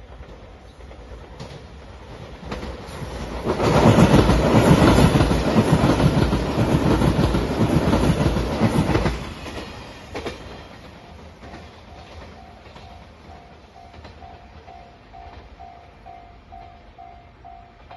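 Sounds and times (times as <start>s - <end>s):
train wheels clattering over rail joints: 0.0s - 15.6s.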